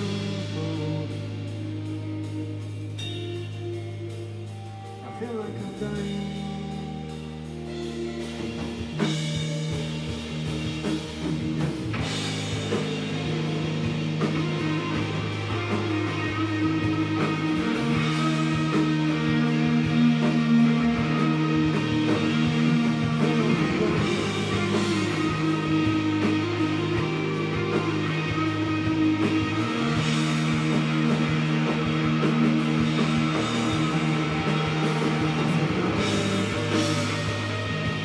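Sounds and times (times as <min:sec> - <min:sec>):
live rock band playing: 0:00.0 - 0:38.0
long held low notes: 0:00.0 - 0:38.0.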